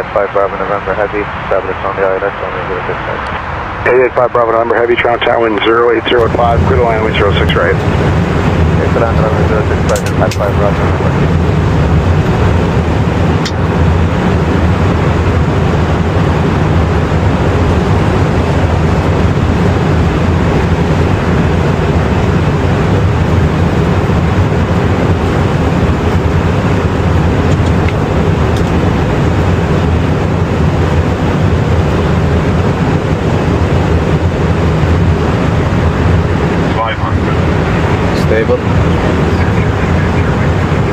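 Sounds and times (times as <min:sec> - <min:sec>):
cockpit airflow and engine rushing: 0:00.0 - 0:40.9.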